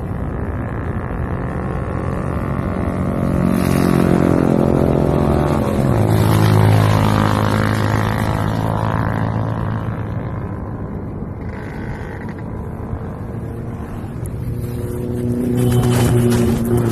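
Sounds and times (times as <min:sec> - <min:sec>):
engine humming steadily: 0:00.0 - 0:16.9.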